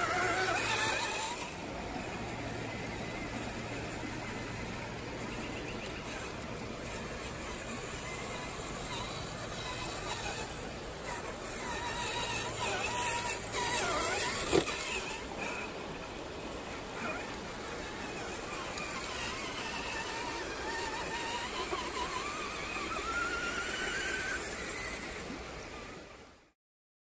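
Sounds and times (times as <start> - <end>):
electric motor and gears whining: 0.0 - 26.5.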